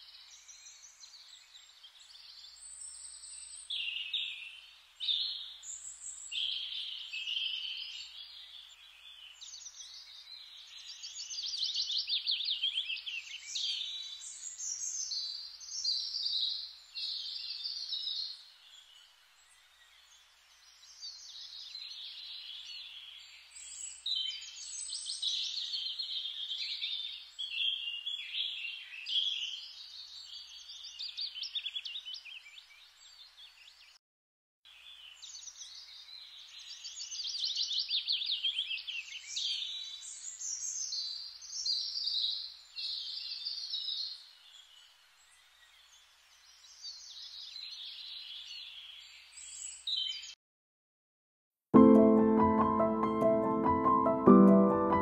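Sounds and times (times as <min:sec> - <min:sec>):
songbirds chirping and singing: 0:00.0 - 0:34.0, 0:34.8 - 0:50.4.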